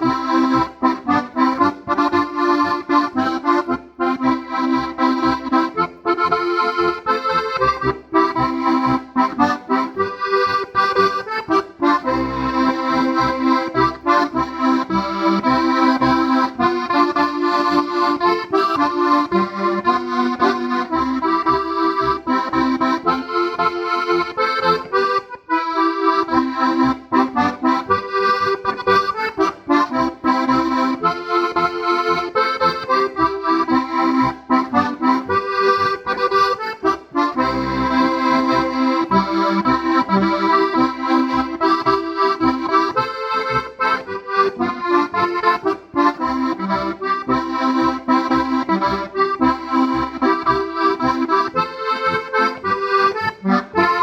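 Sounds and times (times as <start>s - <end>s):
button accordion folk tune: 0.0s - 54.0s.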